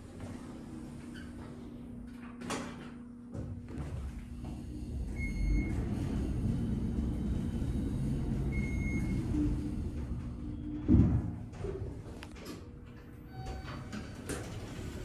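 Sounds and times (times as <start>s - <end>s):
elevator low rumble: 0.0s - 15.0s.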